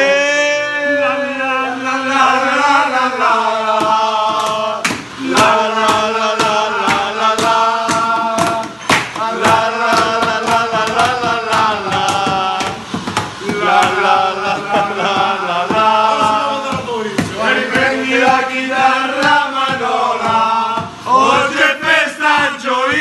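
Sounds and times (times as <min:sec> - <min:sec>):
men singing without words: 0:00.0 - 0:23.0
hand-clapping in time: 0:03.7 - 0:23.0.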